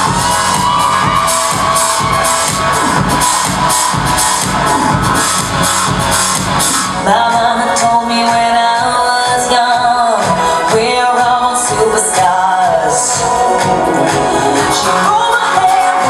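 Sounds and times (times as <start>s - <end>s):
pop dance music with singing: 0.0s - 16.0s.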